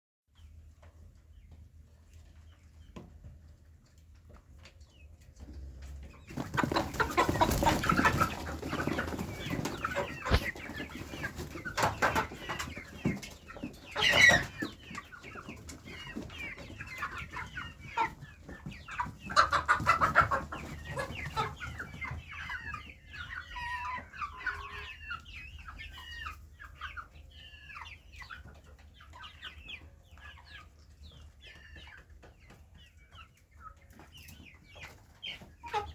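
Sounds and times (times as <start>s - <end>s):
chicks peeping and clucking: 0.3s - 35.9s
chicks flapping and scuffling: 0.4s - 35.9s.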